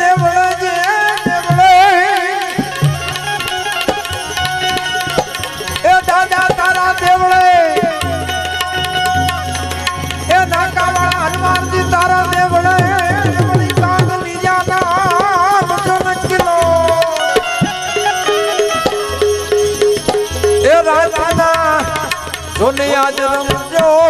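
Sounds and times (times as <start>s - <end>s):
tabla drumming: 0.0s - 24.0s
held wavering melody: 2.5s - 23.8s.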